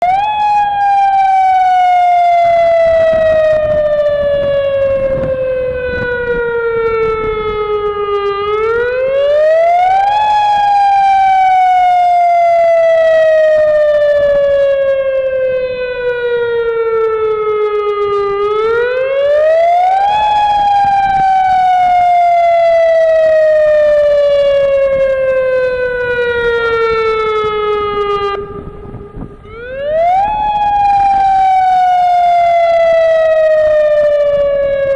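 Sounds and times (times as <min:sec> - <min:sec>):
warning siren rising and falling: 0:00.0 - 0:34.9.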